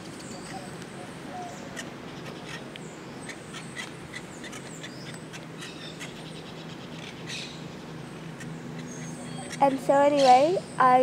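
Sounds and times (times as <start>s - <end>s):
birds chirping and squawking: 0.0s - 11.0s
low background hum: 0.0s - 11.0s.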